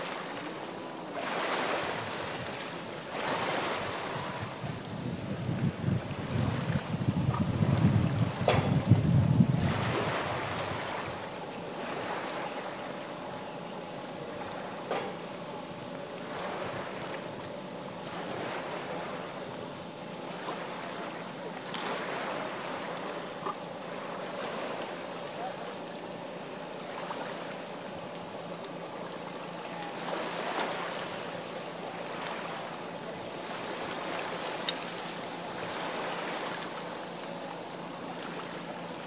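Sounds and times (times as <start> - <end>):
faint steady hum: 0.0 - 39.0
water: 0.0 - 39.0
wind: 0.0 - 39.0.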